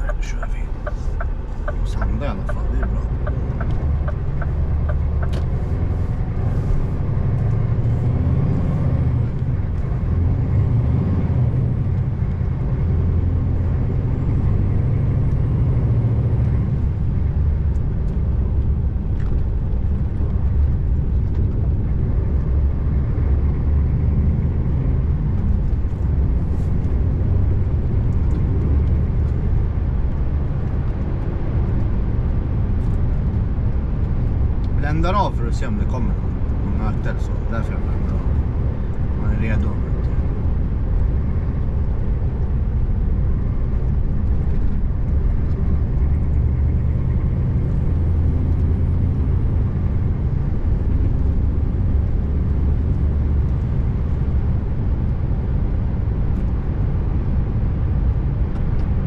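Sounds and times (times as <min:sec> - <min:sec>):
diesel truck engine rumble: 0:00.0 - 0:59.0.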